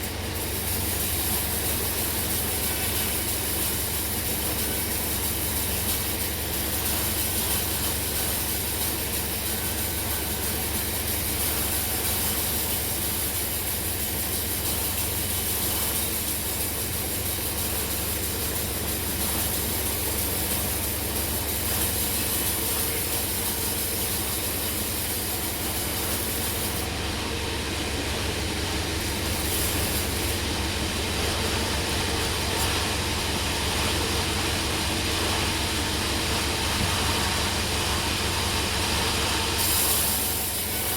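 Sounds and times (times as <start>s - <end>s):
broad machinery hiss: 0.0s - 40.9s.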